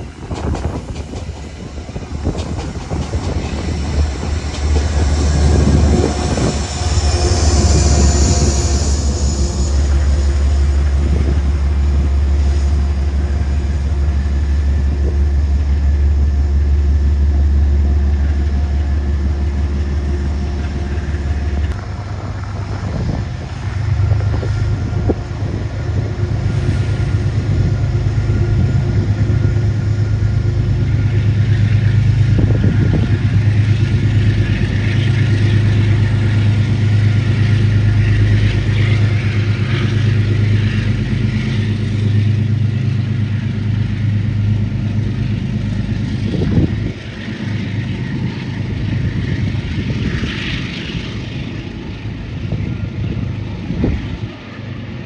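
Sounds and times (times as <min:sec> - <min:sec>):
diesel train engine droning: 0:00.0 - 0:55.0
hissing rail and wheel noise: 0:00.0 - 0:55.0.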